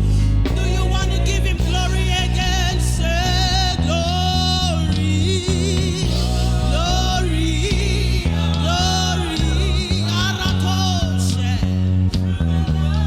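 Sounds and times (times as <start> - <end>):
keyboard and bass accompaniment: 0.0 - 13.0
person singing gospel song: 0.0 - 13.0.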